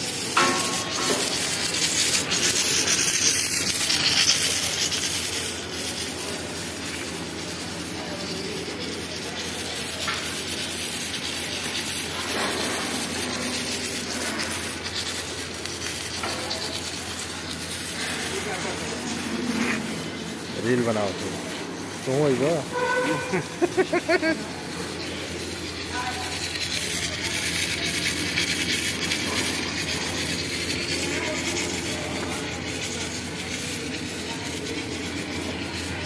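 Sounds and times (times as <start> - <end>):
rail welding hissing and sizzling: 0.0 - 36.0.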